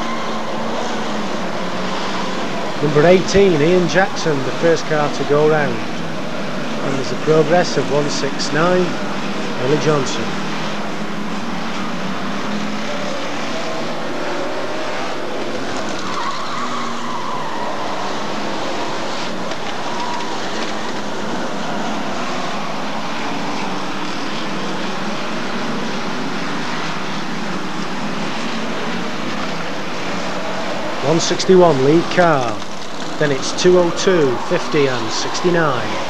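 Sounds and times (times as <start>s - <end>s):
race car engines droning: 0.0s - 36.0s.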